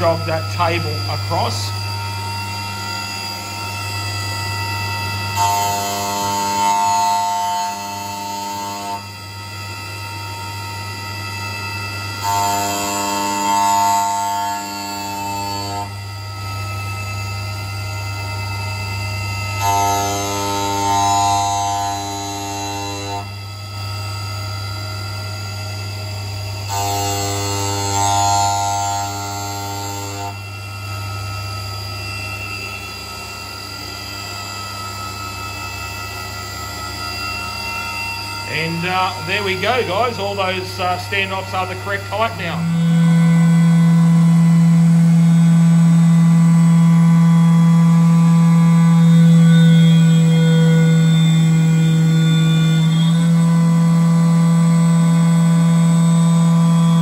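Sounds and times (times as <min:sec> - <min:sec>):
mill spindle humming: 0:00.0 - 0:53.7
milling cutter high singing tone: 0:00.0 - 0:57.0.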